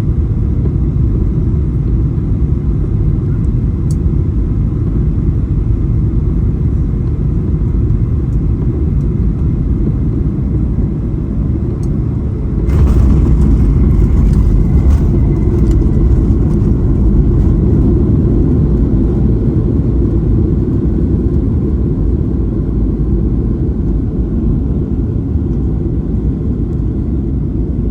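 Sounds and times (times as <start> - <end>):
airplane cabin rumble: 0.0 - 27.9.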